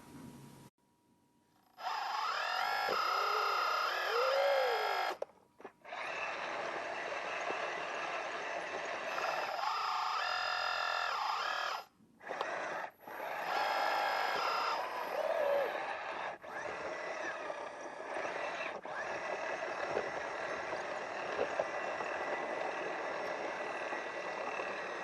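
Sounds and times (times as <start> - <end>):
hydraulic pump and motors whining: 1.6 - 25.0.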